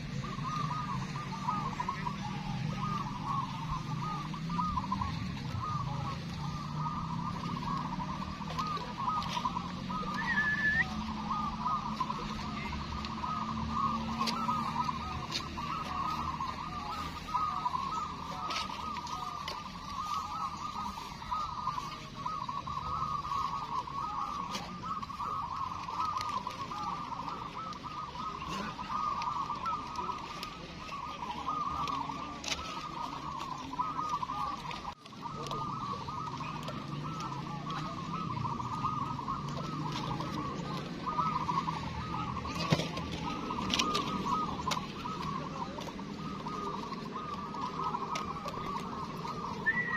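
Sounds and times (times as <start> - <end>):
doves cooing in chorus: 0.0 - 49.9.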